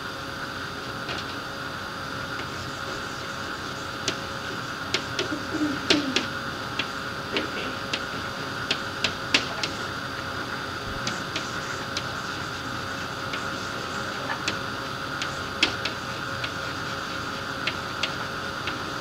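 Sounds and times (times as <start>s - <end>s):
tape hiss and hum: 0.0s - 19.0s.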